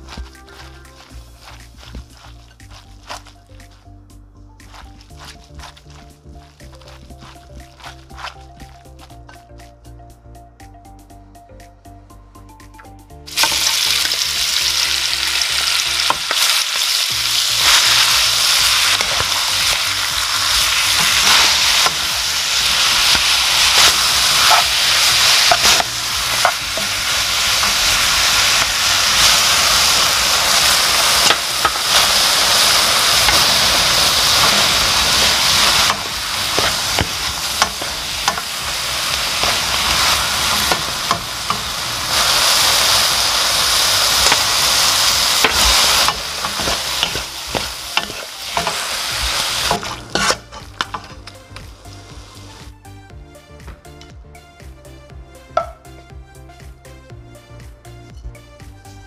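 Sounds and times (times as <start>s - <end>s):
food sizzling in hot oil: 0.0s - 3.7s, 4.6s - 9.1s, 13.3s - 52.7s.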